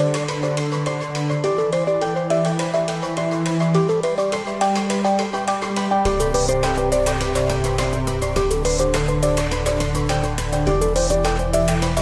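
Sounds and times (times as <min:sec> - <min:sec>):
background music with light beat: 0:00.0 - 0:12.0.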